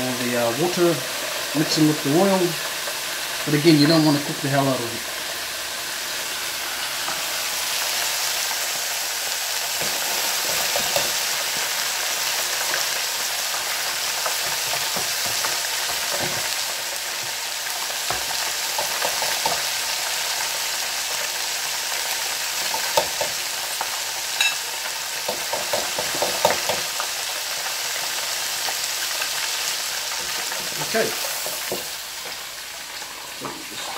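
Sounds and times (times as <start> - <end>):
food deep-frying in sizzling oil: 0.0 - 33.9.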